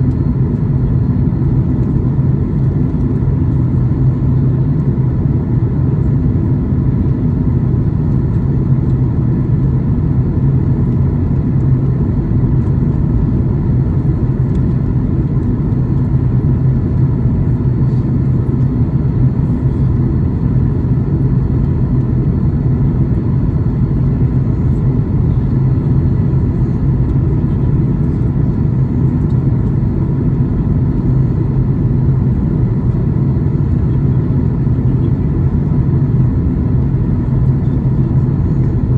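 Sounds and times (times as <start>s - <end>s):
airplane cabin roar: 0.0s - 38.9s.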